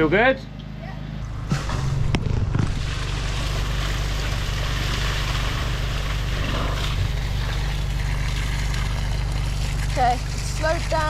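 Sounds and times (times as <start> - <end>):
machine engine hum: 0.0 - 11.0.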